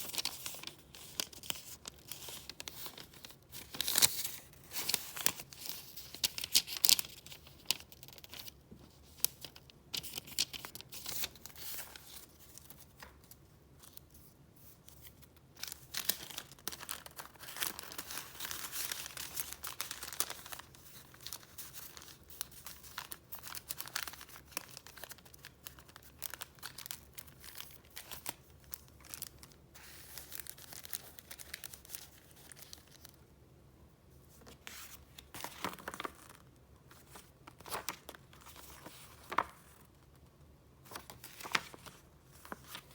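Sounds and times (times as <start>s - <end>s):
paper rustling and crinkling: 0.0s - 33.2s, 34.3s - 40.0s, 40.8s - 42.9s.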